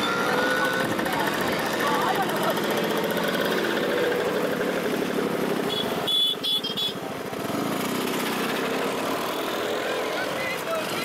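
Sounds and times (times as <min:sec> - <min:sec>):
scooter engines passing slowly: 0:00.0 - 0:11.0.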